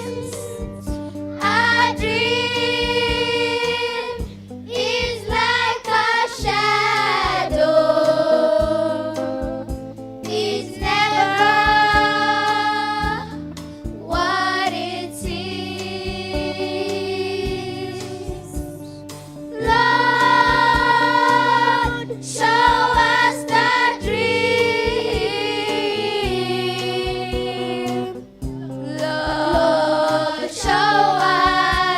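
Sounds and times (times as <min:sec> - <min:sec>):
choir singing slow song: 0:00.0 - 0:31.9
instrumental backing with bass: 0:00.0 - 0:31.9.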